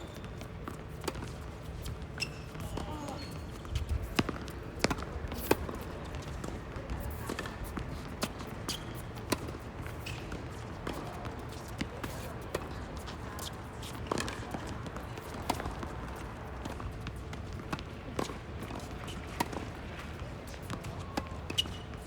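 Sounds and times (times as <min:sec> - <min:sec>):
tennis ball bouncing on court: 0:00.1 - 0:22.0.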